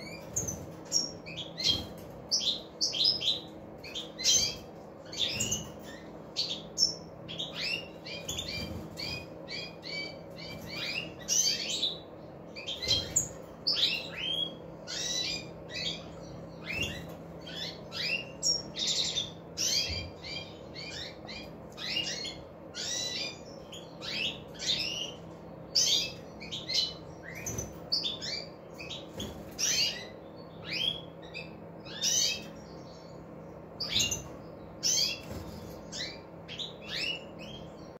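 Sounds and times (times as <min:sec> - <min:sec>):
goldfinches twittering: 0:00.0 - 0:37.9.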